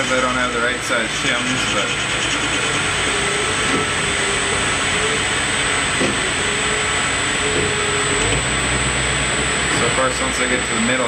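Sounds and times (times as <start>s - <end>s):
faint wavering hum: 0.0s - 11.0s
metal lathe running: 0.0s - 11.0s
thin high whine: 0.0s - 11.0s.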